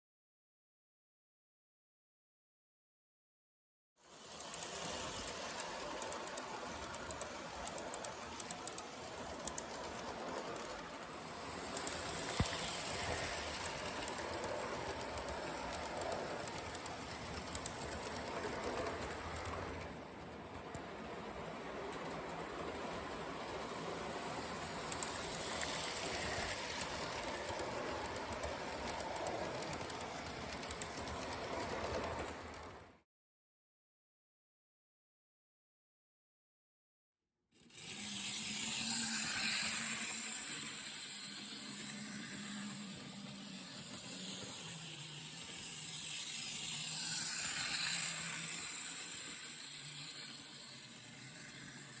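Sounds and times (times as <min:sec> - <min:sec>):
train rumbling on rails: 0:04.1 - 0:33.0, 0:37.7 - 0:52.0
light clicking of rails: 0:04.2 - 0:32.9, 0:37.6 - 0:52.0.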